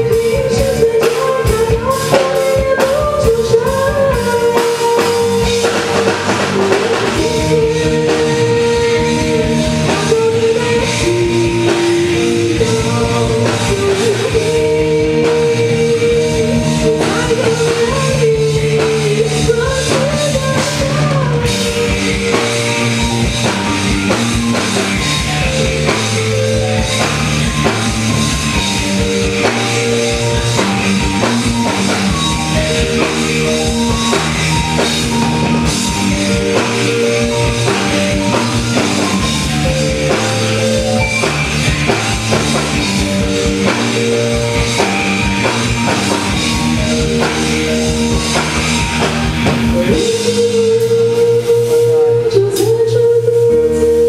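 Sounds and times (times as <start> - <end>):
drum kit steady beat: 0.0 - 52.1.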